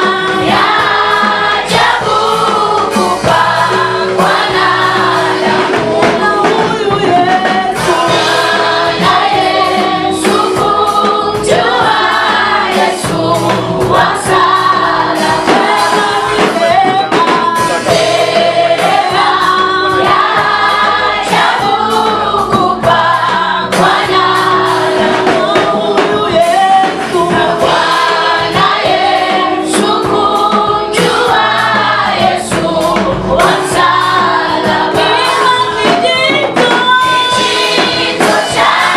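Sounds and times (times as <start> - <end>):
band accompaniment: 0.0 - 38.9
choir singing gospel: 0.0 - 38.9.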